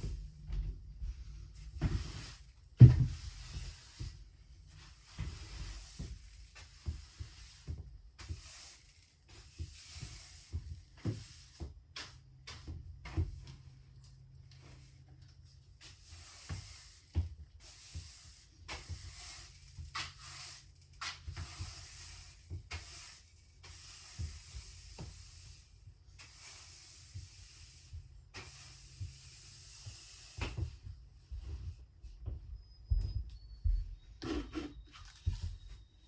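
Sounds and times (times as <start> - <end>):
broom sweeping a floor: 0.0 - 32.4, 34.2 - 36.0.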